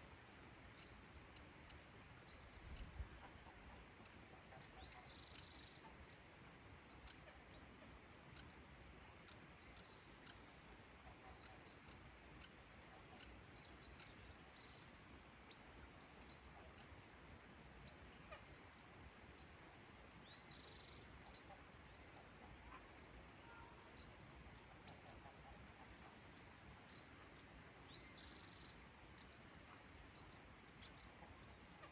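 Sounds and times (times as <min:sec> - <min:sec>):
steady hiss: 0:00.0 - 0:31.9.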